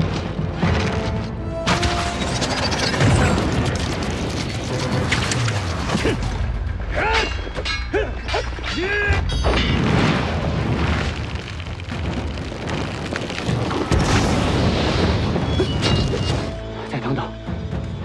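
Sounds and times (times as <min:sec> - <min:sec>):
film music: 0:00.0 - 0:12.8, 0:13.4 - 0:18.0.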